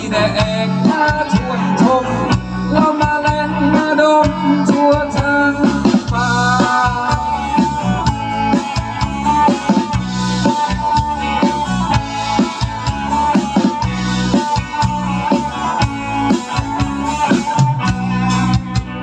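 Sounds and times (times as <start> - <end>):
drum kit beat: 0.0 - 19.0
guitar: 0.0 - 19.0.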